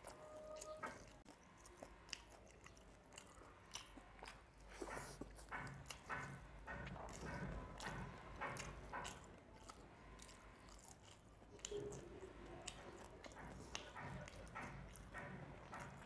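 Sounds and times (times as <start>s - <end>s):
wet chewing smacks: 0.0s - 16.0s.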